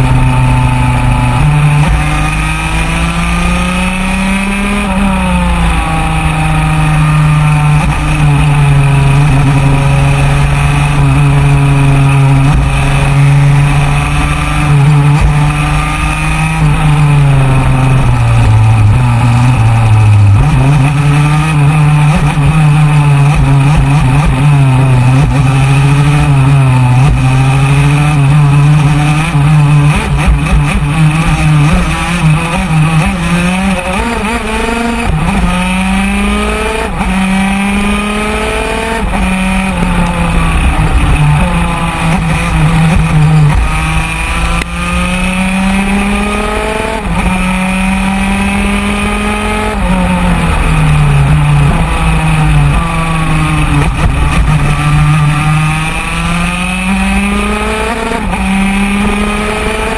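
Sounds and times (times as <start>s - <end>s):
two-stroke kart engine racing: 0.0s - 59.9s.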